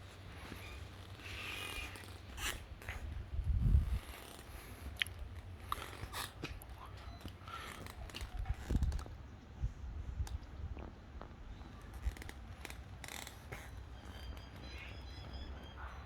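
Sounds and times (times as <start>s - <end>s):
small clicks and scrapes: 0.1s - 3.1s, 3.7s - 9.2s, 10.2s - 15.4s.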